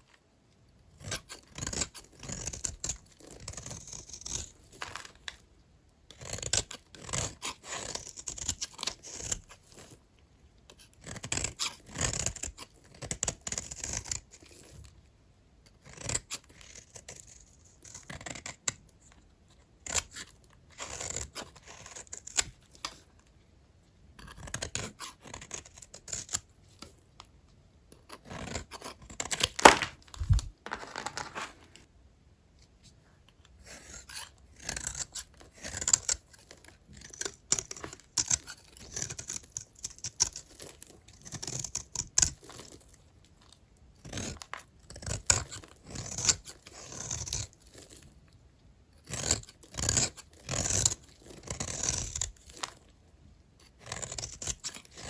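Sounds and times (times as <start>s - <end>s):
knife scraping through dry soap: 0.9s - 5.4s, 6.1s - 10.0s, 10.7s - 14.9s, 15.7s - 18.9s, 19.8s - 23.3s, 24.2s - 27.0s, 28.1s - 31.9s, 32.8s - 48.2s, 49.0s - 53.0s, 53.6s - 55.0s.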